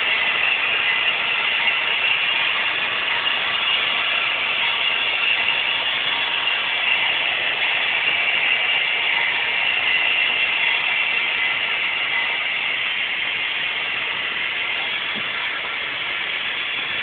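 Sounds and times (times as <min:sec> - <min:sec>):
model train wheels and motor whirring: 0:00.0 - 0:17.0.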